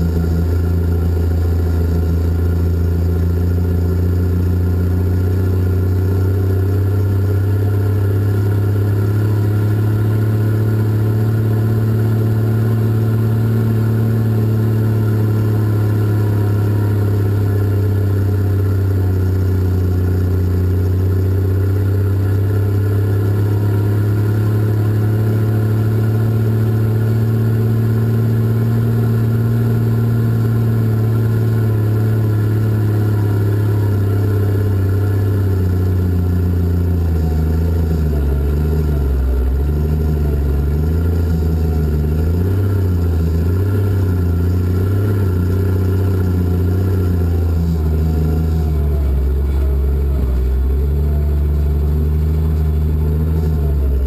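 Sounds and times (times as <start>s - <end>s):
diesel engine deep drone: 0.0s - 54.0s.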